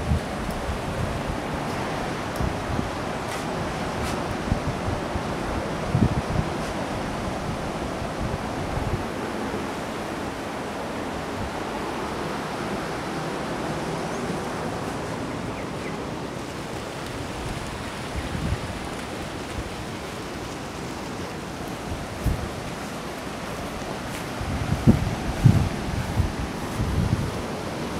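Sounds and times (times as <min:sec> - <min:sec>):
wind buffeting microphone: 0:00.0 - 0:10.5, 0:11.2 - 0:27.9
sea surf: 0:00.0 - 0:27.9
wind: 0:00.0 - 0:27.9.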